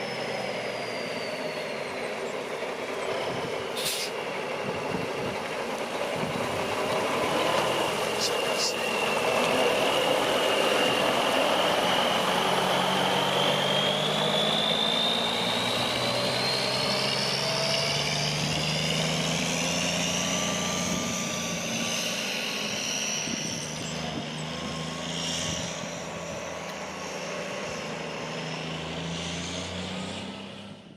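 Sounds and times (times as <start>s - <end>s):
high whine rising in pitch: 0.0s - 3.8s, 6.1s - 30.3s
truck engine running: 0.0s - 30.7s.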